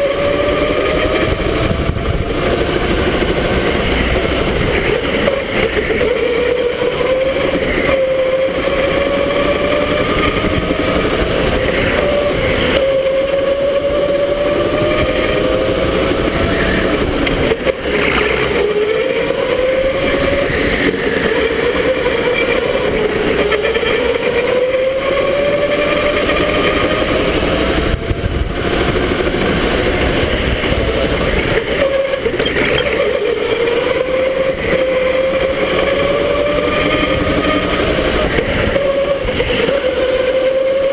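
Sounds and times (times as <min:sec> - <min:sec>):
electric go-kart motor whining: 0:00.0 - 0:40.9
steady rushing noise: 0:00.0 - 0:40.9.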